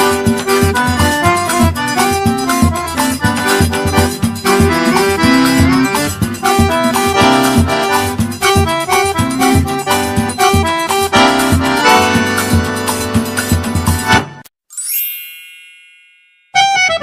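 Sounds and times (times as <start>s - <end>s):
upbeat accordion music: 0.0s - 14.5s, 16.6s - 17.0s.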